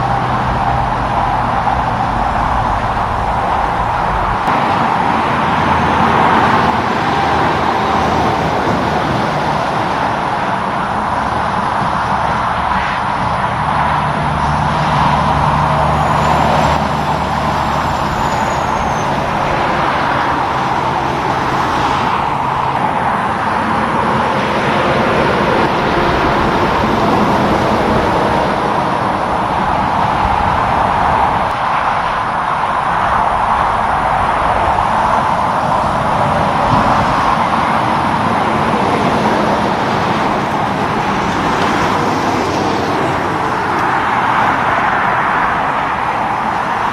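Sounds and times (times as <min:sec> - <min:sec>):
road traffic passing: 0:00.0 - 0:46.9
truck engine drone: 0:00.0 - 0:46.9.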